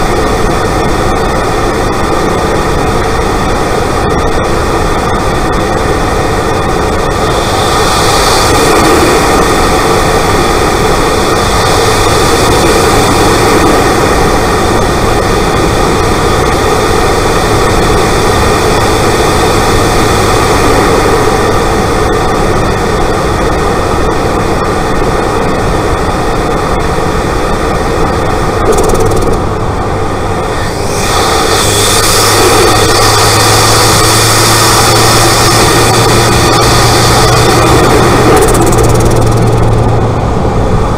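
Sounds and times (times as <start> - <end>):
low engine hum: 0.0 - 40.9
turbo rushing noise: 0.0 - 40.9.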